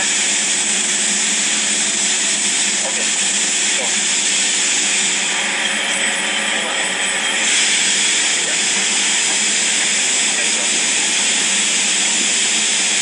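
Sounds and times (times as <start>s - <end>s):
cnc machine hiss and hum: 0.0s - 13.0s
thin high whine: 0.0s - 13.0s.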